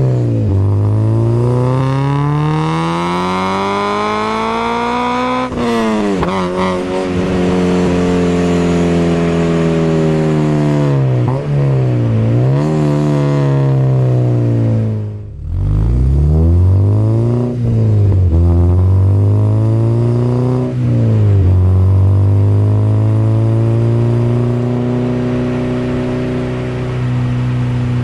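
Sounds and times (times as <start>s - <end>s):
car engine accelerating through gears: 0.0s - 28.0s.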